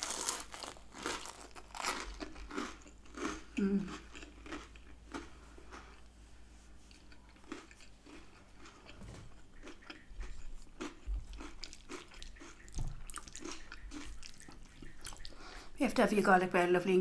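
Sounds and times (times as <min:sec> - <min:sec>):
person chewing crunchy food: 0:00.0 - 0:15.8.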